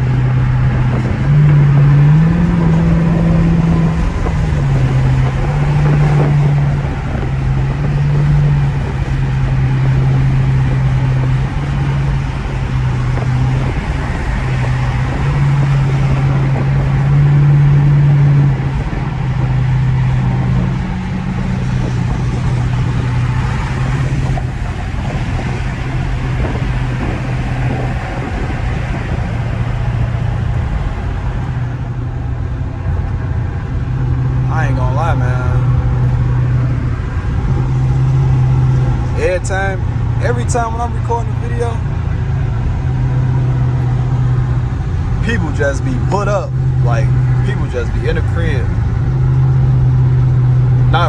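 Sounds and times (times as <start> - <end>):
car exhaust drone: 0.0 - 51.0.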